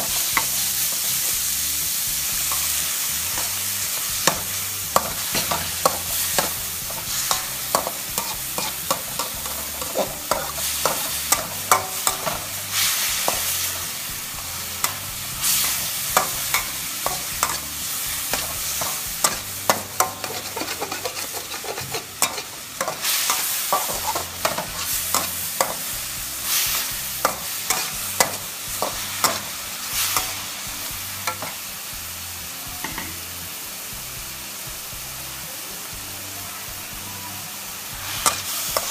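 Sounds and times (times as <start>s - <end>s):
spatula scraping metal wok: 0.0s - 31.7s, 38.0s - 38.9s
meat sizzling: 0.0s - 38.9s.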